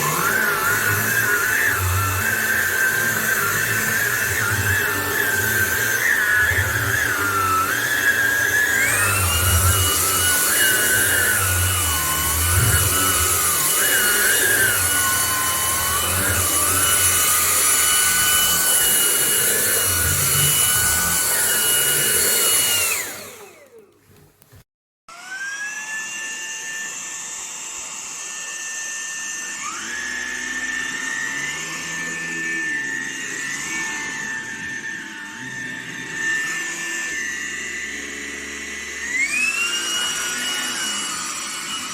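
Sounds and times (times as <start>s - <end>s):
stick vacuum cleaner motor whine: 0.0s - 41.9s.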